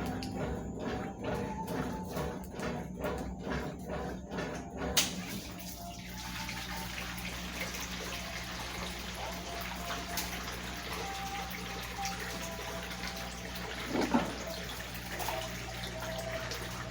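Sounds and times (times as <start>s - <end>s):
water rushing into washing machine: 0.0s - 16.9s.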